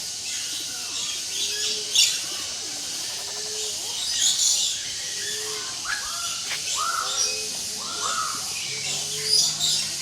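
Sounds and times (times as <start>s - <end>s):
high bird chorus: 0.0s - 10.0s.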